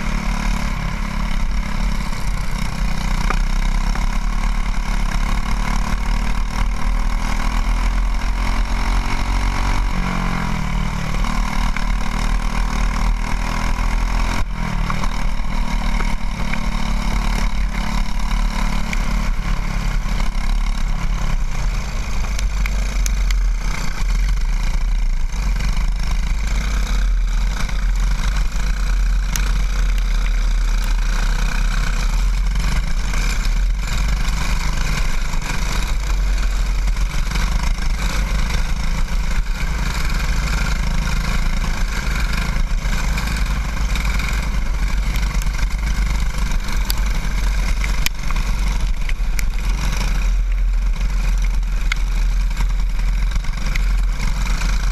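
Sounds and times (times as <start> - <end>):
constant low rumble: 0.0 - 8.7, 9.8 - 54.9
go-kart engine running hard: 0.0 - 54.9.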